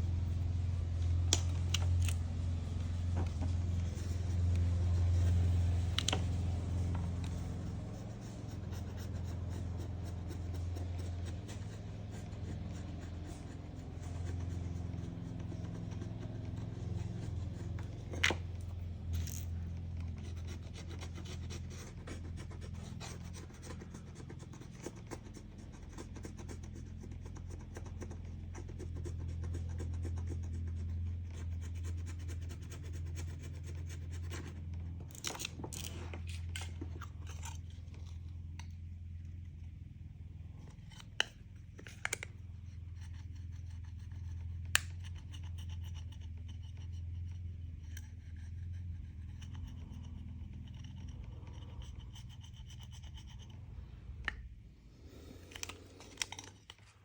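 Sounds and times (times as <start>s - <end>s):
steady low hum: 0.0s - 57.0s
scratching and rubbing on glass: 2.0s - 38.3s, 42.4s - 54.2s.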